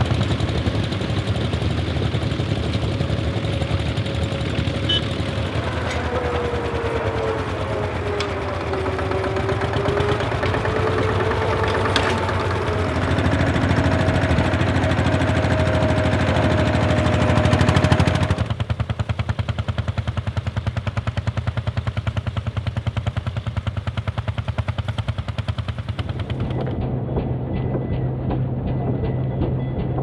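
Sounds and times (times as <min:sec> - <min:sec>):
tractor diesel engine chugging: 0:00.0 - 0:26.8.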